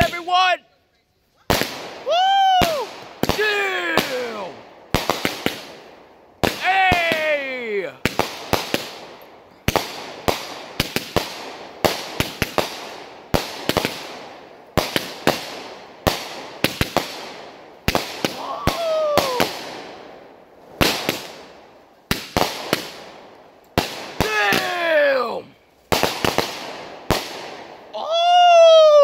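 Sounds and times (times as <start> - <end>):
fireworks bangs: 1.4 - 29.0.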